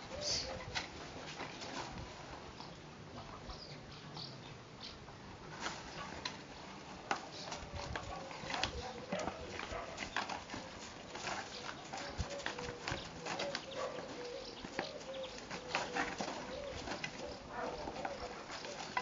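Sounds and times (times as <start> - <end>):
puppies scuffling on gravel: 0.1 - 2.7, 5.4 - 19.0.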